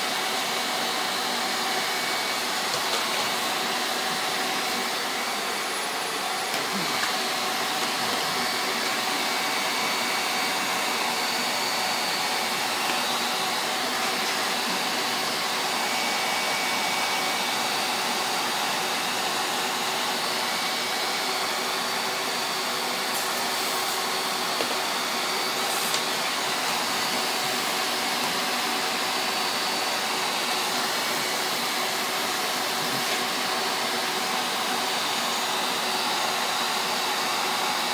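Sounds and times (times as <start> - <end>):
shop vac running: 0.0 - 37.9.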